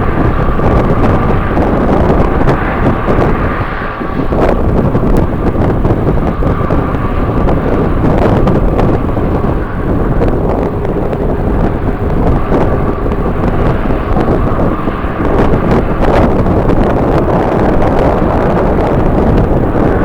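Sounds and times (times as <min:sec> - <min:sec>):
faint jet engine whine: 0:00.0 - 0:20.0
gusty wind buffeting microphone: 0:00.0 - 0:20.0.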